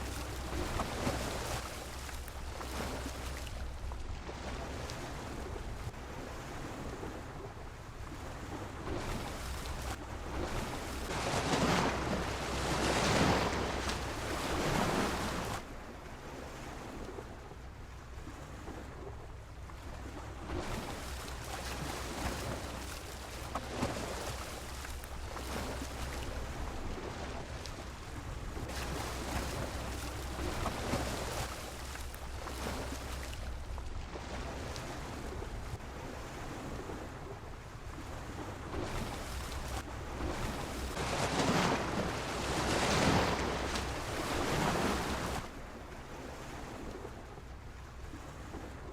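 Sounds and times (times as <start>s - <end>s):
waves washing against a pier: 0.0s - 48.9s
wind rumble on microphone: 0.0s - 48.9s.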